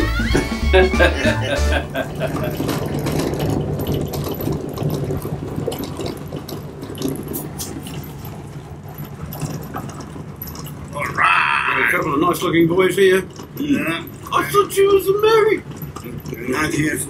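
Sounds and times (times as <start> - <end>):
truck engine hum: 0.0 - 17.0.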